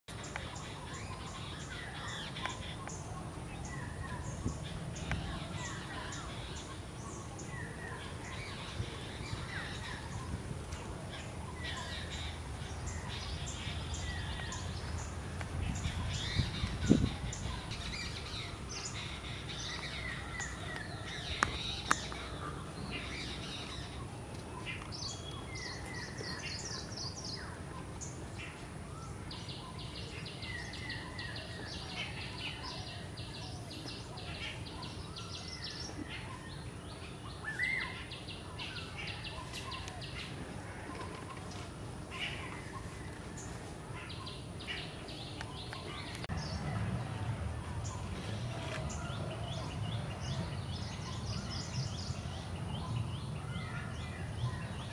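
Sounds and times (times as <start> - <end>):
wild birds chirping and calling: 0.1 - 54.9.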